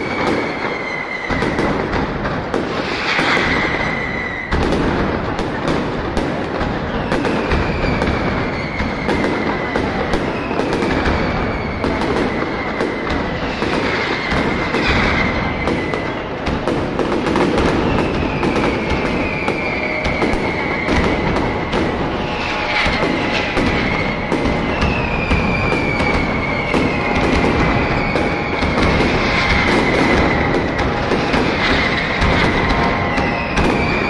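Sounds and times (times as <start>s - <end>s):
firecrackers banging rapidly: 0.0s - 34.0s
whistling fireworks: 0.0s - 34.0s.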